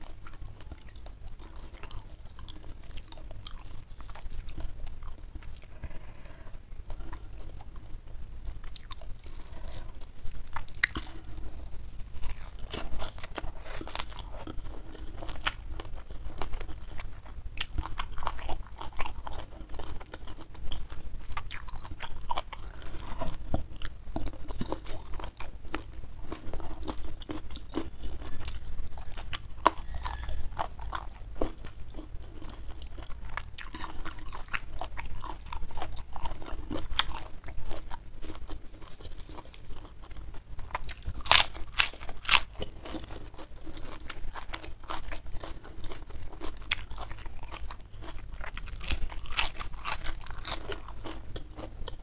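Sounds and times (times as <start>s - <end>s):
person chewing: 0.0s - 52.0s
crisp food crunches: 8.4s - 52.0s.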